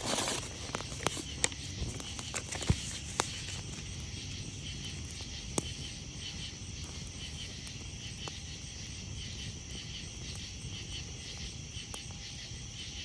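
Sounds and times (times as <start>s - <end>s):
campfire crackling and popping: 0.0s - 13.0s
night insects chorus: 0.0s - 13.0s.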